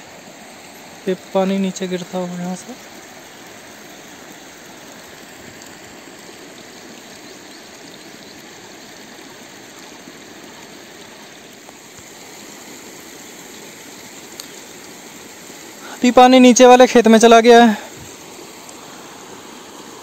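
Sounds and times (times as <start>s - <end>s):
running water in channel: 0.0s - 20.0s.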